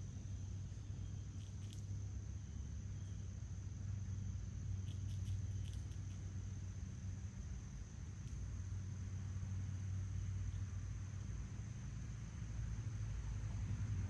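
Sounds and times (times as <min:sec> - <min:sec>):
high insect drone: 0:00.0 - 0:14.0
low steady hum: 0:00.0 - 0:14.0.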